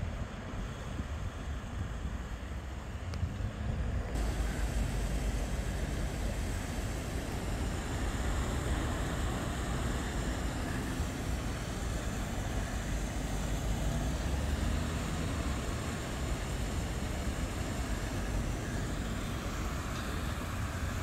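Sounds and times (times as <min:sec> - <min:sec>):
steady low rumble: 0:00.0 - 0:21.0
even hiss: 0:04.2 - 0:21.0.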